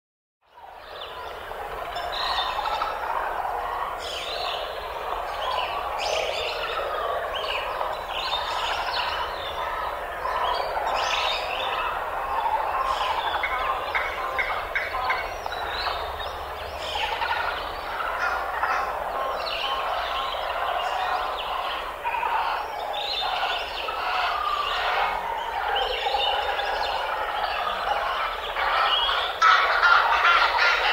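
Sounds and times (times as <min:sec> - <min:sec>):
many birds chirping: 0:00.4 - 0:30.9.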